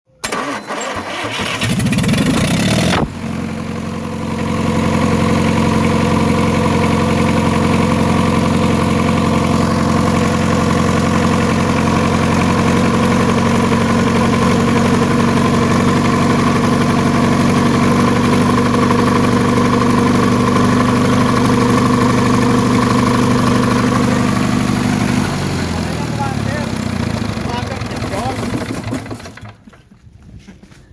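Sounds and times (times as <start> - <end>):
diesel engine starter cranking: 0.1 - 29.9
diesel engine idling: 0.3 - 29.5.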